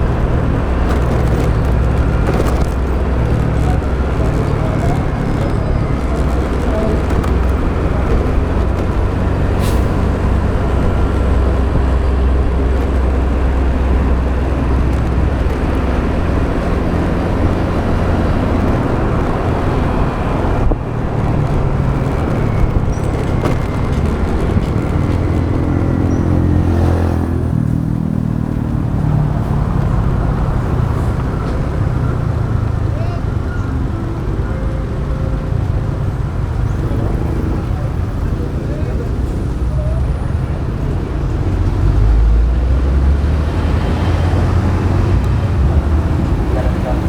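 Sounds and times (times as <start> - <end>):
motorbike engine: 0.0 - 39.6
wind and road noise: 0.0 - 47.0.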